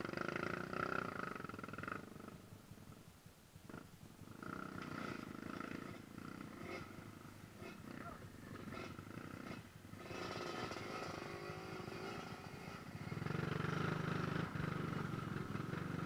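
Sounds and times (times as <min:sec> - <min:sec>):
dirt bike engine rumbling: 0:00.0 - 0:16.0.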